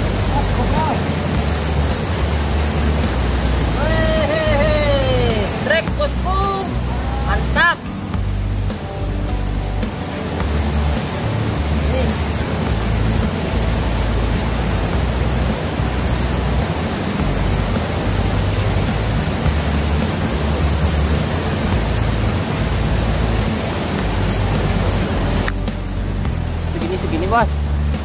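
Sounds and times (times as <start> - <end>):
low rumbling: 0.0 - 28.0
river water rushing: 0.0 - 28.0
wind: 0.0 - 28.0.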